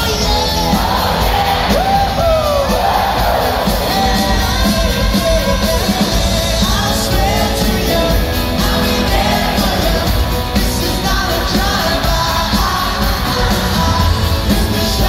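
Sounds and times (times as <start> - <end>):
live pop-rock band playing: 0.0 - 15.0
male lead vocal: 0.0 - 15.0.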